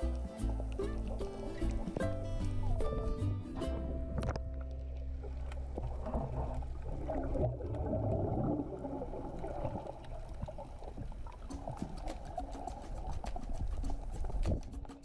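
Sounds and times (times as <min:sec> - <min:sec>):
low steady hum: 0:00.0 - 0:12.4
underwater water sloshing: 0:00.4 - 0:15.0.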